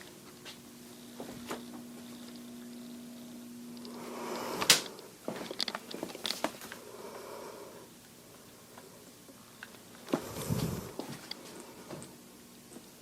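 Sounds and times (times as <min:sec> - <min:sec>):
electric fan motor humming: 0:00.0 - 0:13.0.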